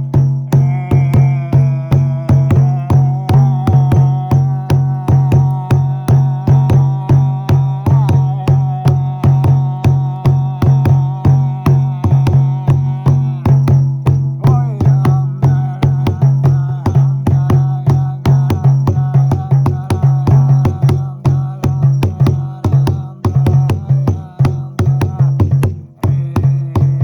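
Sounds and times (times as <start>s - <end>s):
frame drum beating: 0.0s - 27.0s.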